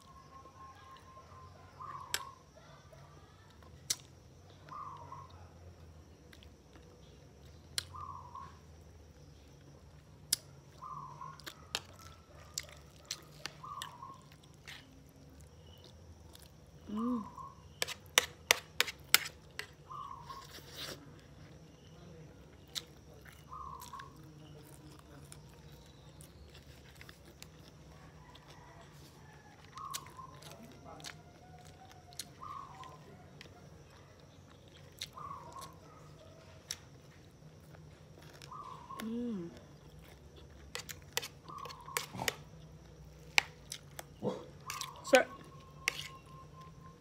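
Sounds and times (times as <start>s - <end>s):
chewing: 3.5s - 47.0s.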